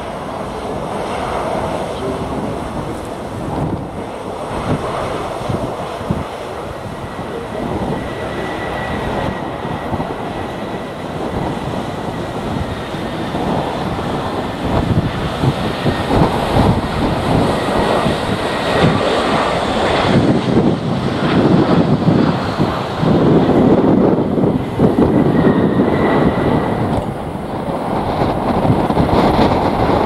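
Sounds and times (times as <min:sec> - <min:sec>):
gusty wind on microphone: 0:00.0 - 0:30.0
jet engines whining: 0:00.0 - 0:30.0.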